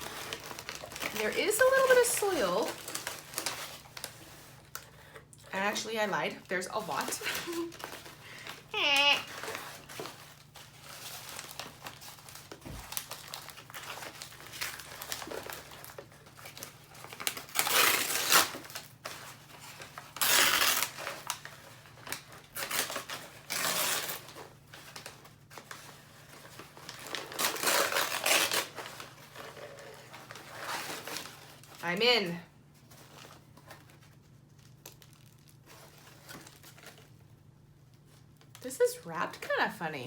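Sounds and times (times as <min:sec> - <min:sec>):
packaging crinkling and tearing: 0:00.0 - 0:32.1, 0:32.8 - 0:38.7.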